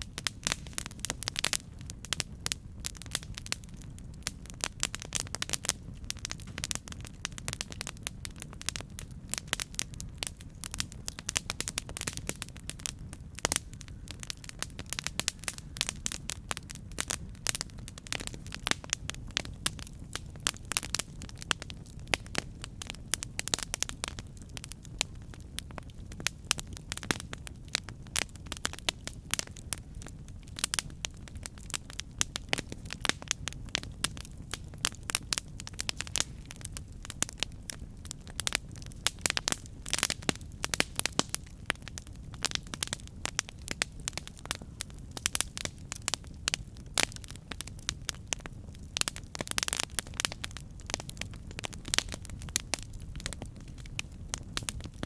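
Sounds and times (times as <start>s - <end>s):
flames rumbling: 0.0s - 55.0s
wood crackling and popping: 0.0s - 55.0s.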